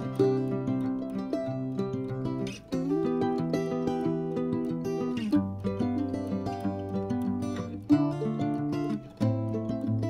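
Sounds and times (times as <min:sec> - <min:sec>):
plucked guitar chords: 0:00.0 - 0:10.0.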